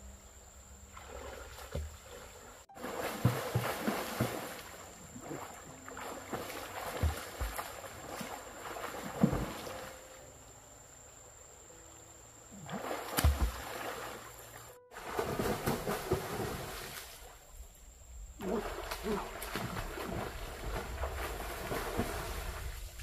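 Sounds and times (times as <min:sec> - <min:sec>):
water splashing from swimming: 0:00.9 - 0:10.0, 0:12.5 - 0:17.5, 0:18.4 - 0:23.0.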